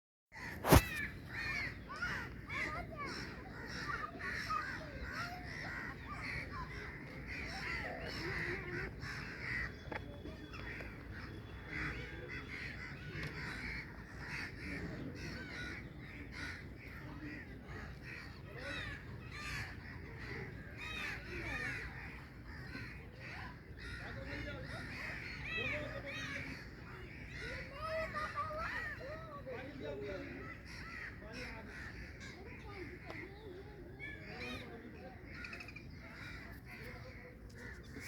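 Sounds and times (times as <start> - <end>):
flock of birds calling: 0.4 - 38.0.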